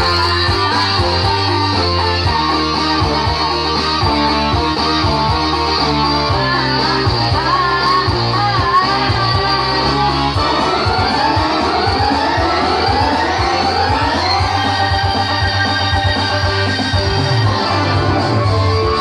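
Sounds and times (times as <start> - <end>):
guitar: 0.0 - 19.0
steady bass line: 0.0 - 19.0.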